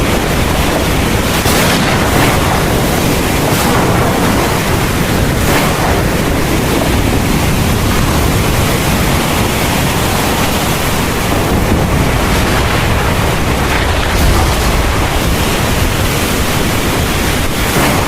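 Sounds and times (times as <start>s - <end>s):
deep rumble: 0.0s - 18.0s
heavy rain pouring: 0.0s - 18.0s.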